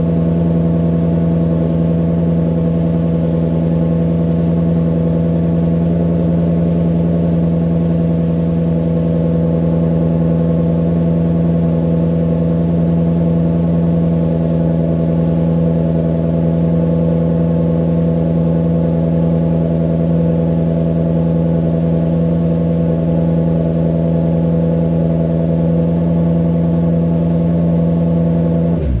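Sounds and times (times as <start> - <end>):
car engine running steadily: 0.0 - 29.0.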